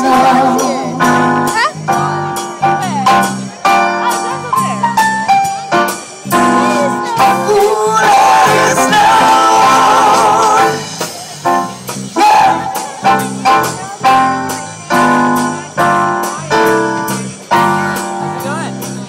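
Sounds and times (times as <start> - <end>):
live band playing: 0.0 - 19.0.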